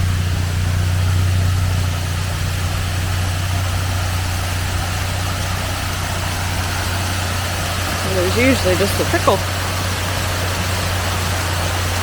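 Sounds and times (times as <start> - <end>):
car engine idling: 0.0 - 12.0
waterfall rushing: 0.0 - 12.0.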